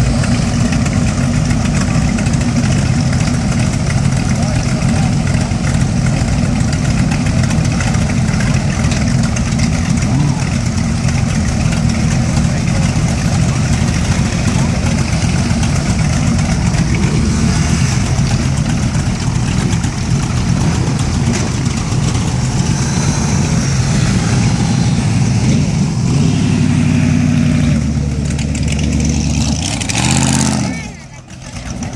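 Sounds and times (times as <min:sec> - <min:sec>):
motorcycle pulling away: 0:00.0 - 0:31.9
motorcycles idling: 0:00.0 - 0:31.9.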